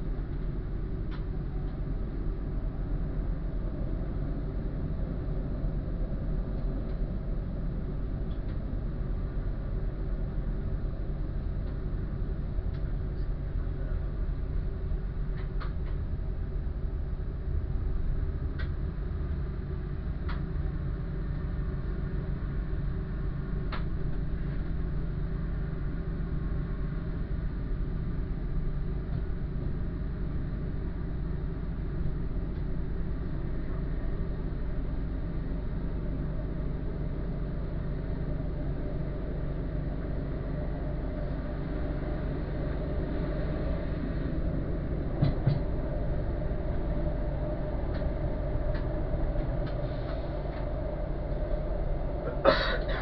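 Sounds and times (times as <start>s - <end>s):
diesel train engine drone: 0.0s - 53.0s.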